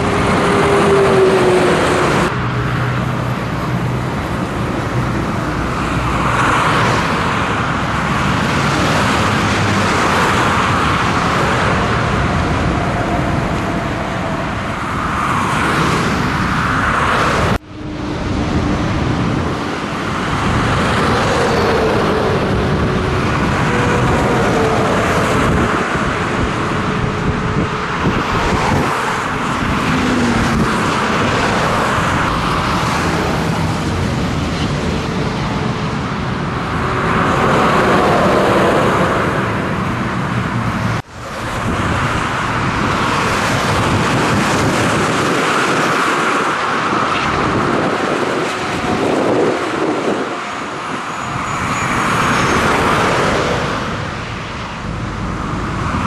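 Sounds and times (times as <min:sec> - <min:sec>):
tyres rushing on asphalt: 0:00.0 - 0:56.0
vehicle engines droning: 0:00.0 - 0:56.0.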